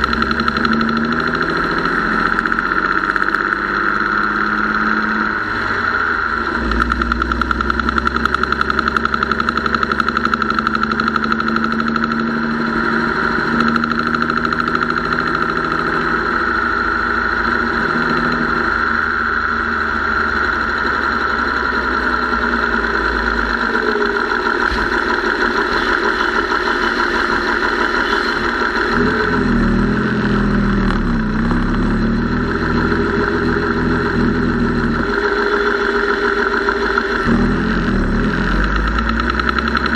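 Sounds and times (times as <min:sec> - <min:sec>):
engine running with rapid ticking: 0:00.0 - 0:39.9.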